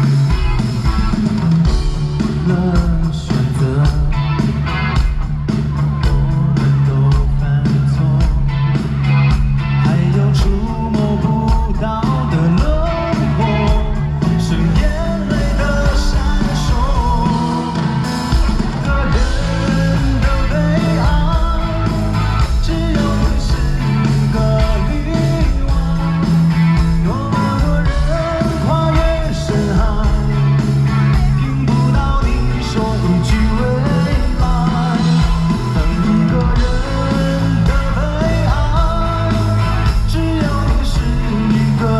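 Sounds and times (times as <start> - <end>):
electric guitar: 0.0 - 41.9
live rock band playing: 0.0 - 41.9
steady bass: 0.0 - 41.9
person singing: 1.7 - 4.8, 6.0 - 8.8, 9.6 - 41.9.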